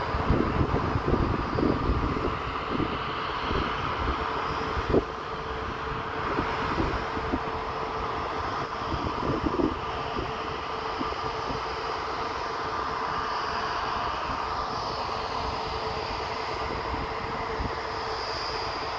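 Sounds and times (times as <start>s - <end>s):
jet engines whining: 0.0s - 18.9s.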